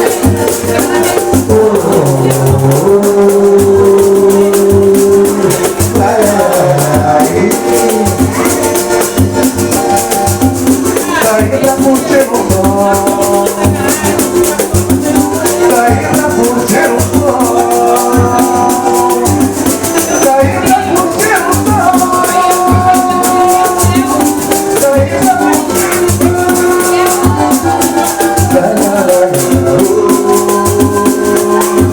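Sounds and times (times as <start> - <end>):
shaker rattle: 0.0 - 31.9
song with drum beat: 0.0 - 31.9
sustained melody: 0.0 - 31.9.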